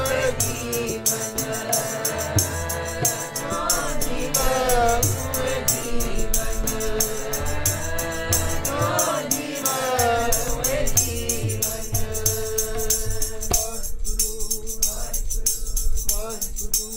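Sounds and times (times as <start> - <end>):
devotional singing: 0.0 - 16.9
harmonium: 0.0 - 16.9
jingling percussion: 0.0 - 16.9.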